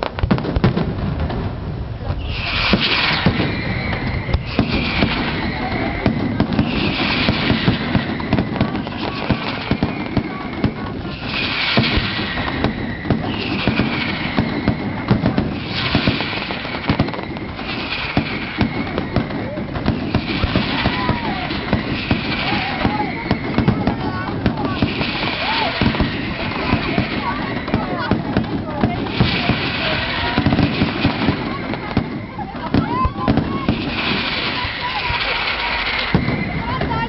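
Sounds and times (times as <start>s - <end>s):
fireworks bangs and crackles: 0.0s - 37.0s
fireworks hissing rush: 0.0s - 37.0s.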